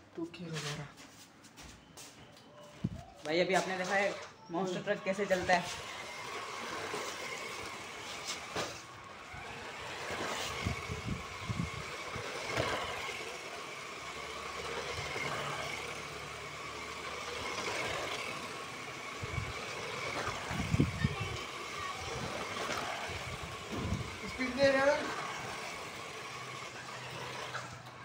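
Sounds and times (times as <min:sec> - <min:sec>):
tyres on concrete: 0:03.2 - 0:28.0
toy truck electric motor whining: 0:03.3 - 0:28.0.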